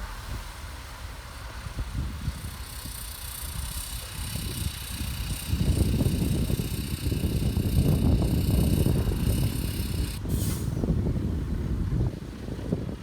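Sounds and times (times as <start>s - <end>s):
heavy machinery rumbling: 0.0s - 10.5s
high hiss: 0.0s - 10.8s.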